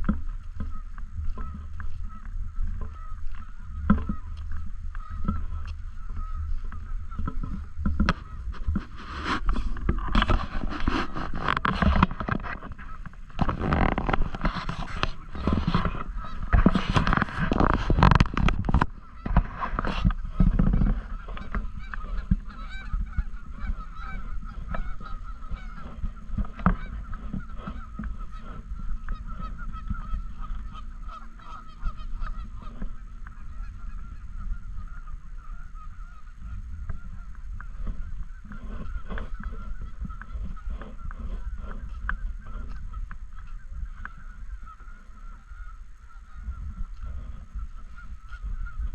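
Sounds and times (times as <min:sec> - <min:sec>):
geese honking: 0:00.0 - 0:48.9.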